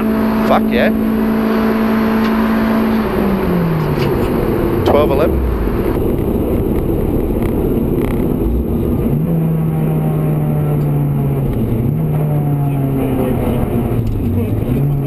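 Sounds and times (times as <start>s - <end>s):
car engine running: 0.0s - 15.0s
heavy road noise: 0.0s - 15.0s.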